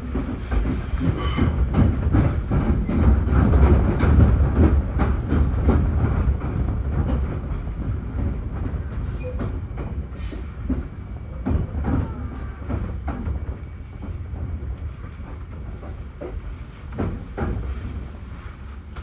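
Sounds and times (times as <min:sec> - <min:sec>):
train rumbling slowly: 0:00.0 - 0:19.0
wheels clacking on track: 0:00.0 - 0:19.0.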